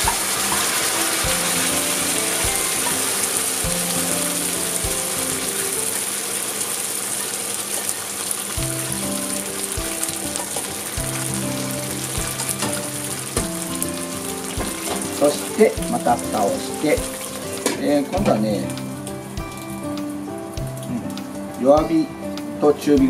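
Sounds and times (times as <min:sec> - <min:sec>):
soft background music: 0:00.0 - 0:06.2, 0:08.6 - 0:23.0
sauce sizzling in frying pan: 0:00.0 - 0:23.0.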